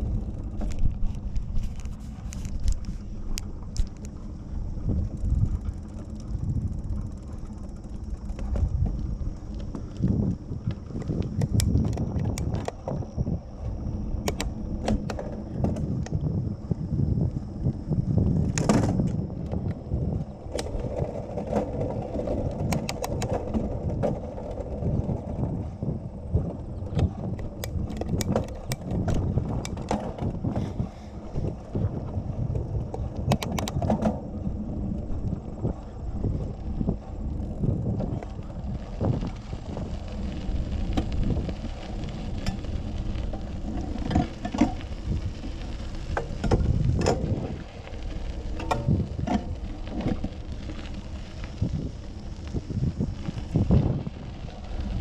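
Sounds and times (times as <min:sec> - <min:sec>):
bicycle clicks and rattles: 0:00.0 - 0:55.0
bicycle rolling rumble: 0:00.0 - 0:55.0.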